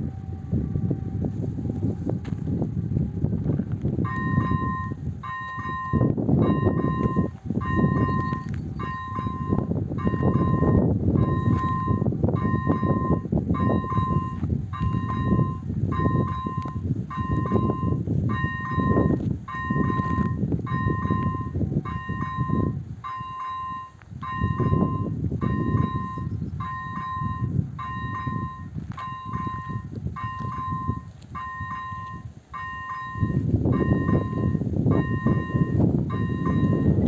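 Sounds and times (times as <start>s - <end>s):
wind rumbling on microphone: 0.0s - 37.0s
level crossing warning bell: 4.0s - 37.0s.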